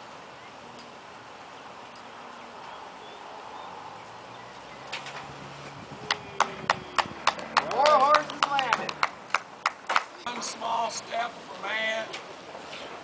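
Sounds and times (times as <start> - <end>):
open-air background noise: 0.0 - 13.0.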